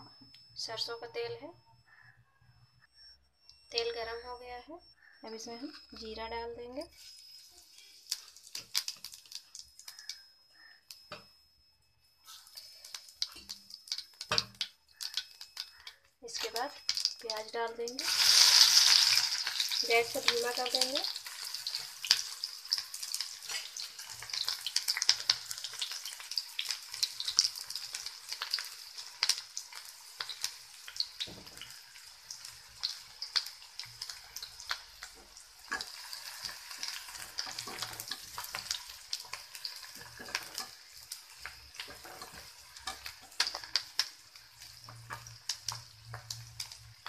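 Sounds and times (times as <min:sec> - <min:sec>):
onions sizzling in hot oil: 0:05.3 - 0:10.7, 0:12.2 - 0:47.0
oil crackling and popping: 0:07.0 - 0:11.2, 0:12.2 - 0:47.0.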